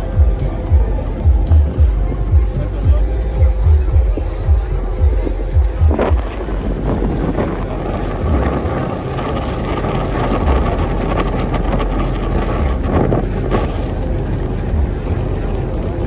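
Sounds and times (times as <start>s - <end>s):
low thumps: 0.0s - 16.0s
wind buffeting microphone: 0.0s - 16.0s.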